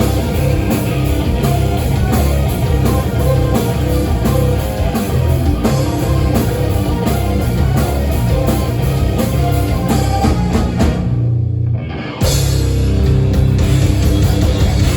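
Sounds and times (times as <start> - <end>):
rock band playing live: 0.0 - 14.9.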